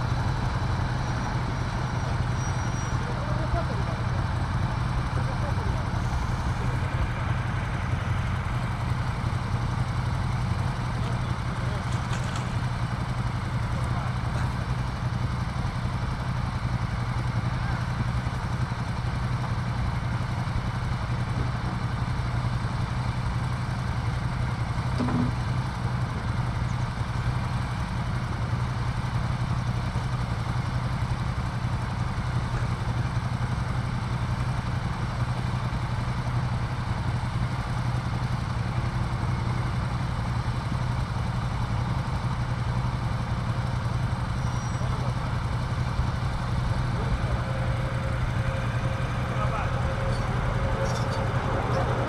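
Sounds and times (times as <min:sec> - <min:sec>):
motorcycle engines idling: 0:00.0 - 0:52.0.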